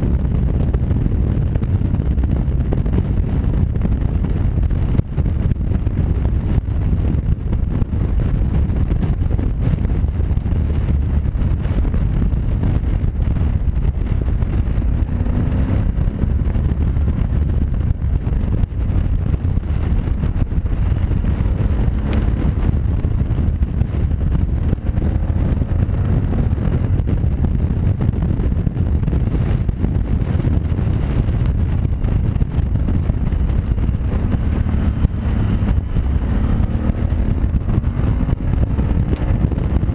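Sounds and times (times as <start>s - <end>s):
motorcycle engine droning: 0.0s - 39.9s
wind rushing over microphone: 0.0s - 39.9s.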